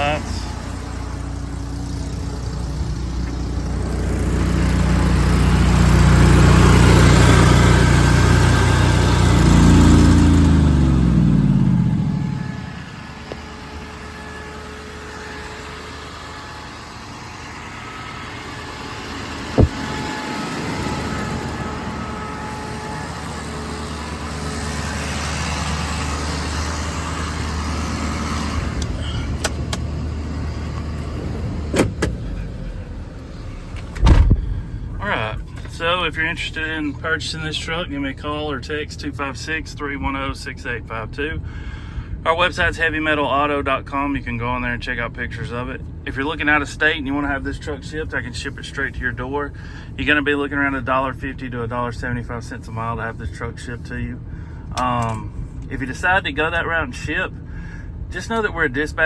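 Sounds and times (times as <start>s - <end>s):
quieter engine hum: 0.0s - 59.0s
truck engine running and winding down: 0.0s - 59.0s.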